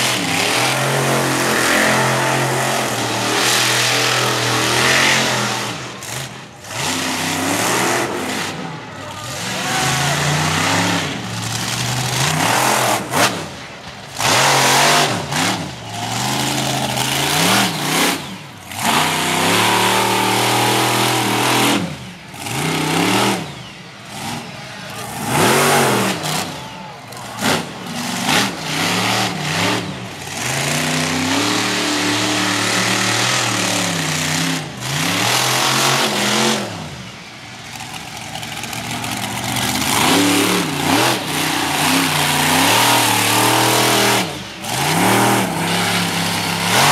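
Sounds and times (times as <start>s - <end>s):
monster truck engine revving: 0.0s - 46.9s.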